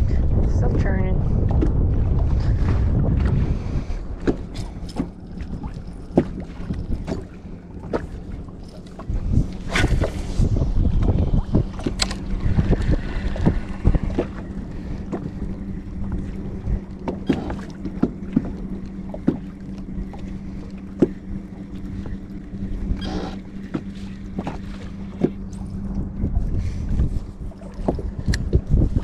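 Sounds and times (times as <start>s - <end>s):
waves slapping boat hull: 0.0s - 29.0s
wind rumble on microphone: 0.0s - 29.0s.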